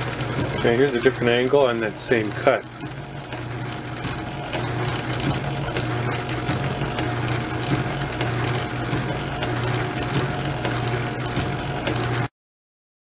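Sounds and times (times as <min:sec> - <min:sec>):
metal shaper running: 0:00.0 - 0:12.3.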